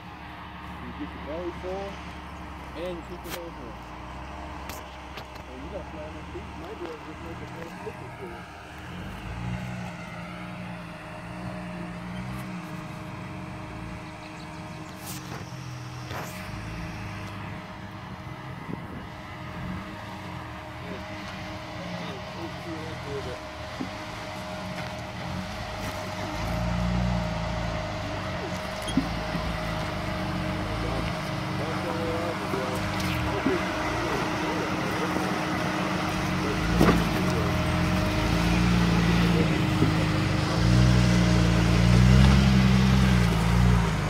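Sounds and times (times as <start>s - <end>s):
car engine at low revs: 0.0s - 44.0s.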